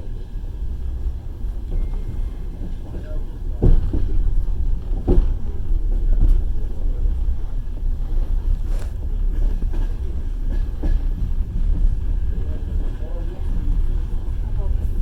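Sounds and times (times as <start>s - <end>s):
train carriage rumble: 0.0s - 15.0s
train wheels knocking: 2.8s - 15.0s.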